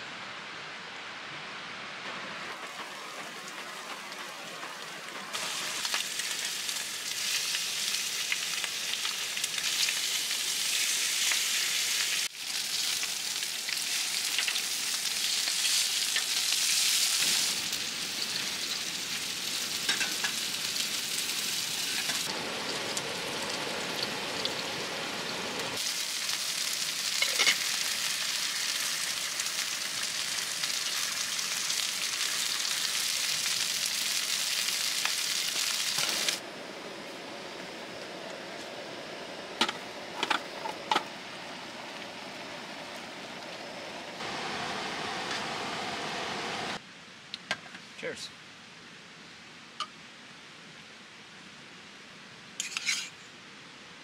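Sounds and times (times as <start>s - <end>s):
sausages and egg sizzling: 2.1s - 46.8s, 52.6s - 53.2s.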